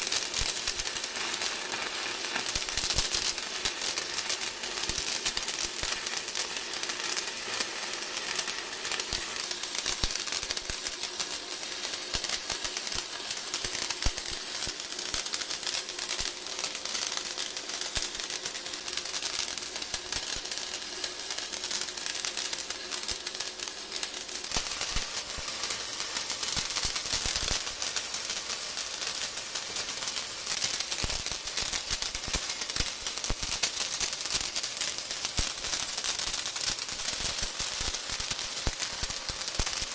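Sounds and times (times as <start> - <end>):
welding arc crackling and sizzling: 0.0 - 39.9.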